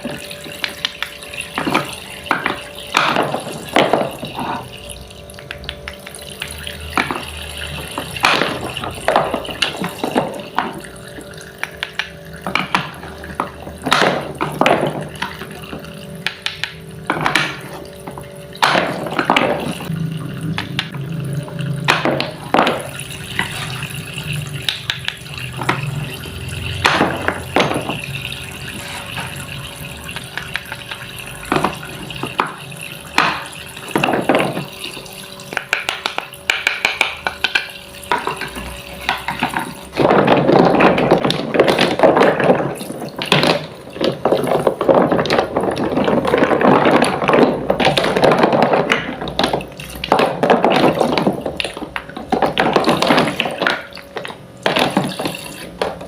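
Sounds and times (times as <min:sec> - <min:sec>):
kitchen items clicking and knocking: 0:00.0 - 0:56.0
water running and splashing: 0:00.0 - 0:56.0.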